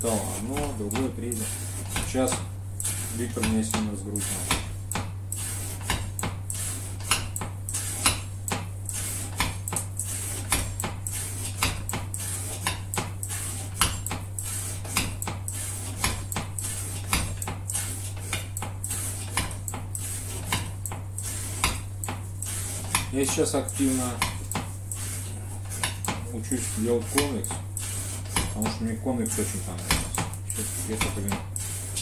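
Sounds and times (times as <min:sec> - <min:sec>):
knife cutting strokes: 0:00.0 - 0:32.0
low mains hum: 0:00.0 - 0:32.0.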